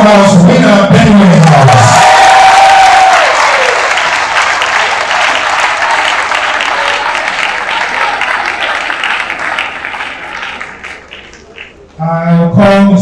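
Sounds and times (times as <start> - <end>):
audience clapping: 1.3 - 12.0.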